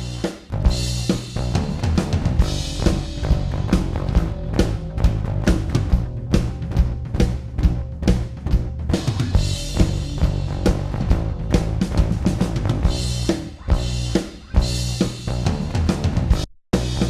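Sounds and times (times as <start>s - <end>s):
bass line: 0.0s - 17.0s
drum kit groove: 0.0s - 17.0s.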